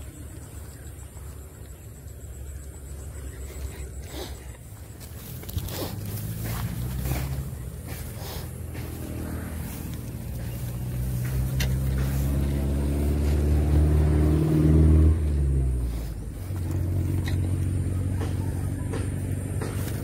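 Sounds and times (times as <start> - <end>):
vehicle engine passing: 2.4 - 20.0.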